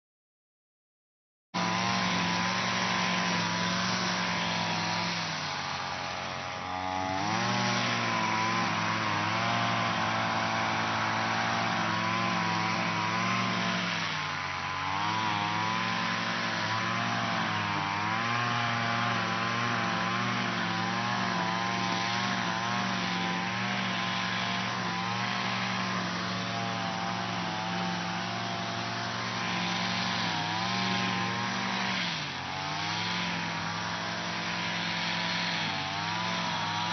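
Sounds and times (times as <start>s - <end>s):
lawn mower engine running: 1.6s - 36.9s.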